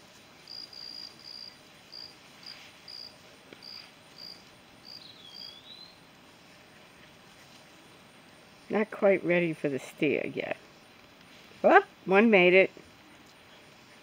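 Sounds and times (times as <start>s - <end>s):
faint crickets chirping: 0.0s - 14.0s.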